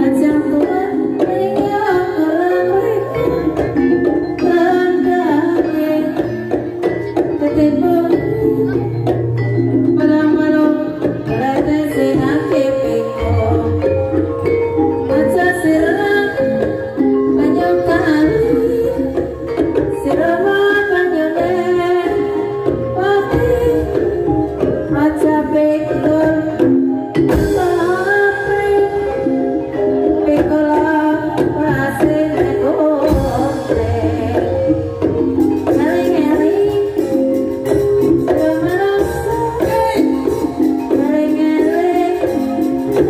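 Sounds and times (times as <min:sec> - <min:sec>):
person singing wavering melody: 0:00.0 - 0:43.0.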